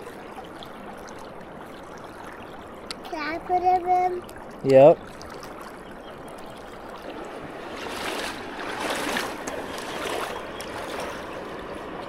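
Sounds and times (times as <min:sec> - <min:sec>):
stream rushing: 0:00.0 - 0:12.0
water splashing by hand: 0:00.0 - 0:12.0.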